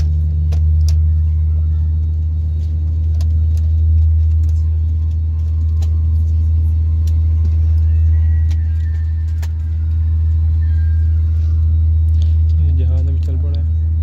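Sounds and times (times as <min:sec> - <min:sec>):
jet engine cabin drone: 0:00.0 - 0:14.0.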